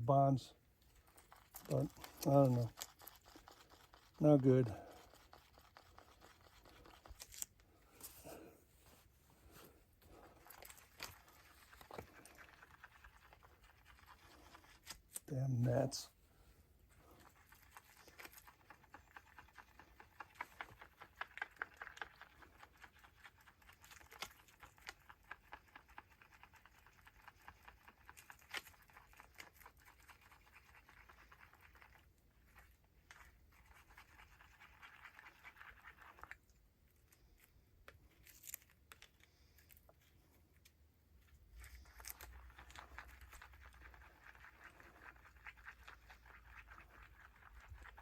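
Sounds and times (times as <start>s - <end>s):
brush strokes spreading resin: 0.2s - 48.0s.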